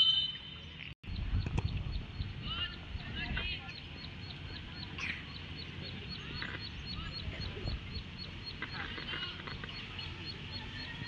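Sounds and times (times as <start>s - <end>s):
distant calls or shouts: 0.0s - 11.0s
high repeating chirp: 0.0s - 11.0s
steady low rumble: 1.0s - 11.0s.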